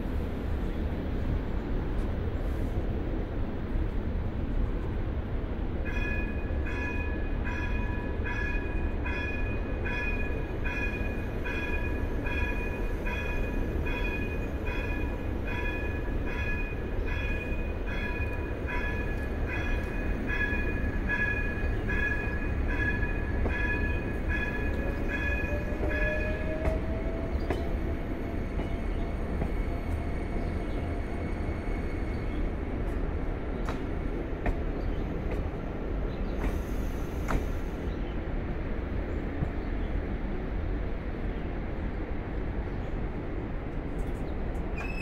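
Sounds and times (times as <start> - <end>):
train humming: 0.0 - 45.0.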